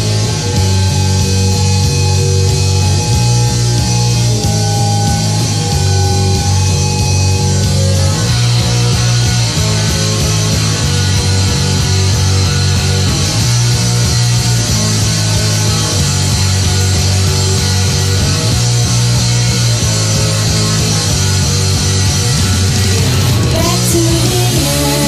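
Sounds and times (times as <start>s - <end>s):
bass line: 0.0s - 25.0s
guitars: 0.0s - 25.0s
rock band playing: 0.0s - 25.0s.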